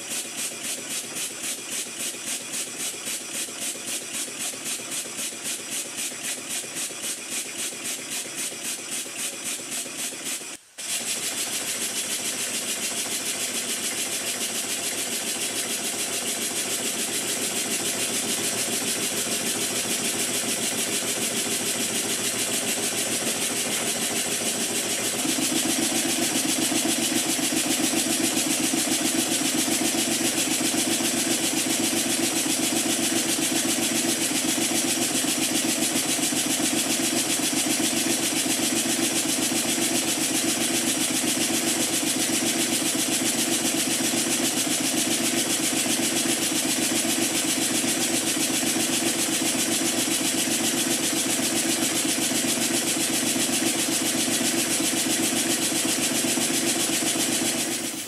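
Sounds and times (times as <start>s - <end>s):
model steam engine chuffing: 0.0s - 58.0s.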